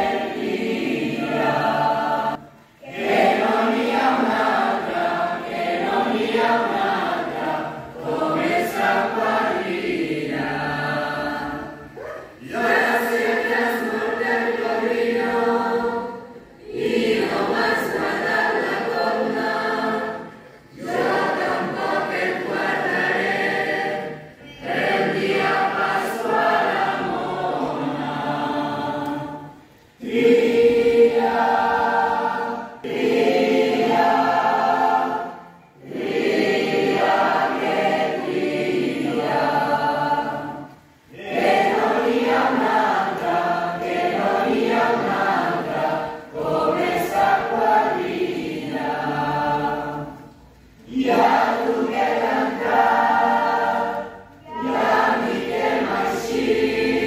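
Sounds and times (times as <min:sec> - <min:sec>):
large group singing: 0:00.0 - 0:57.0.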